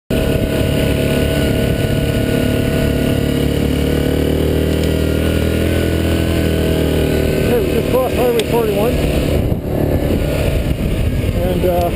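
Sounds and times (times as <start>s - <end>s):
quad bike engine running: 0.1s - 11.9s.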